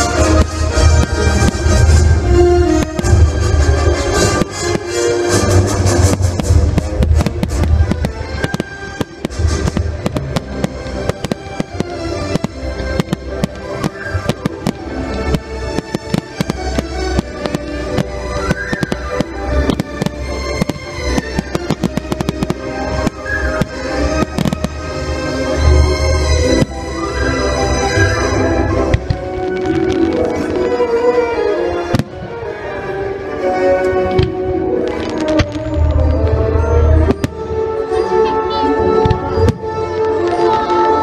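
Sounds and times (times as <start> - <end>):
fireworks popping and banging: 0.0 - 41.0
loud music: 0.0 - 41.0.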